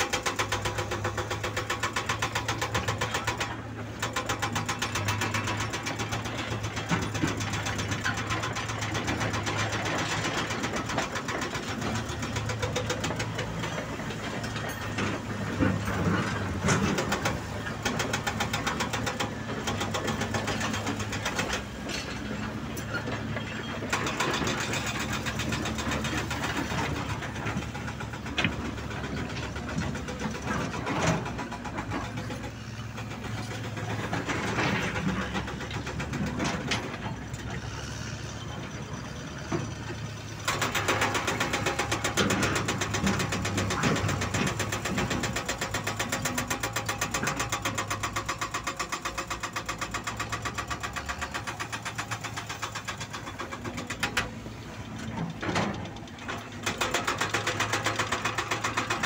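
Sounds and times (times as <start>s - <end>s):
hydraulic rock breaker hammering: 0.0s - 37.6s, 40.4s - 59.0s
diesel earthmoving machines running: 0.0s - 59.0s.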